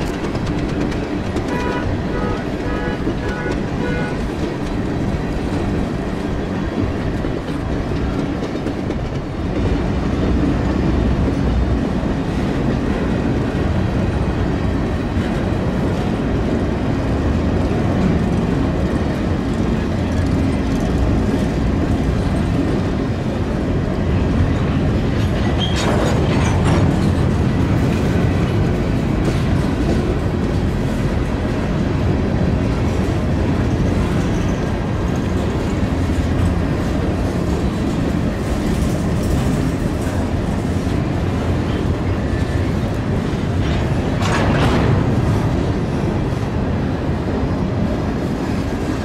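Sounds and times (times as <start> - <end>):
freight train rumble: 0.0 - 49.0
steel wheels clattering on rails: 0.0 - 49.0.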